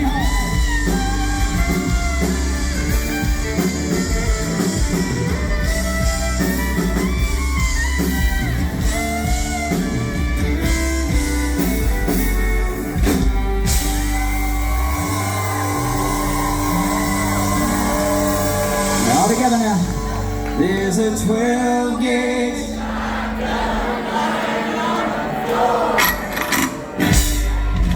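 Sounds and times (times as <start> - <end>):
electric guitar with bent notes: 0.0 - 22.8, 26.0 - 27.9
bass guitar: 0.0 - 23.9, 26.0 - 27.9
drums: 0.0 - 27.9.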